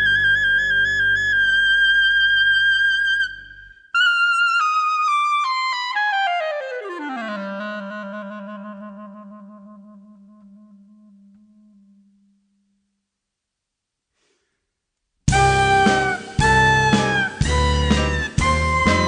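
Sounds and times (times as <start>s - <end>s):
solo clarinet playing slow run: 0.0s - 12.4s, 15.3s - 19.0s.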